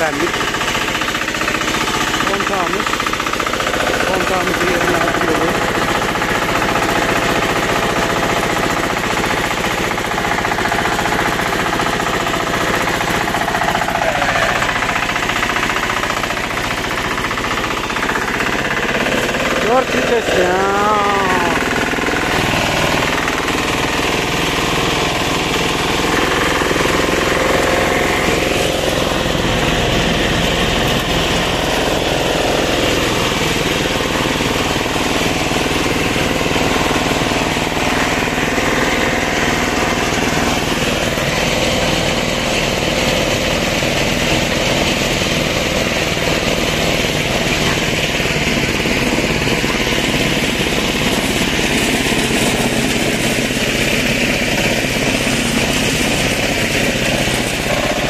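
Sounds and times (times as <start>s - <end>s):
single-cylinder diesel engine running: 0.0s - 58.0s.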